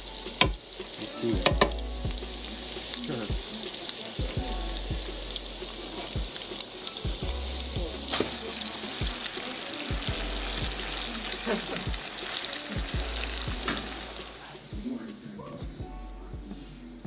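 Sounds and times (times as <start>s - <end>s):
food sizzling in a frying pan: 0.0s - 15.6s.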